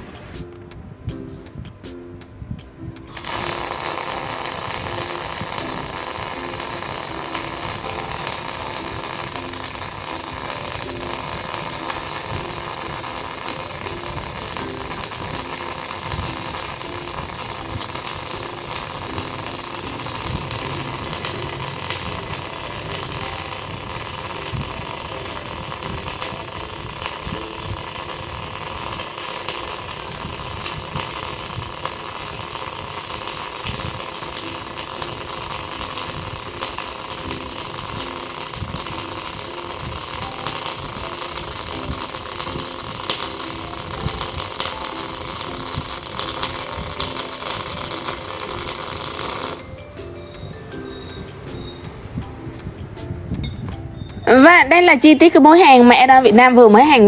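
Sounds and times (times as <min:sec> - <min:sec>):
welding arc crackling buzz: 0:03.0 - 0:49.8.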